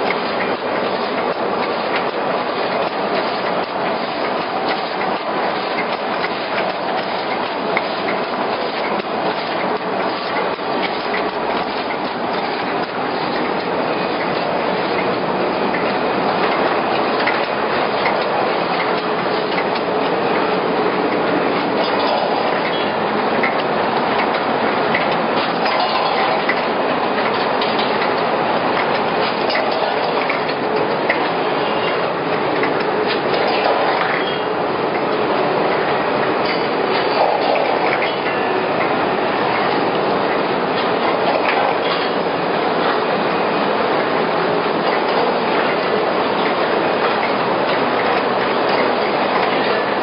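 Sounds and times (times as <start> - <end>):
machine mechanical clatter: 0.0 - 50.0.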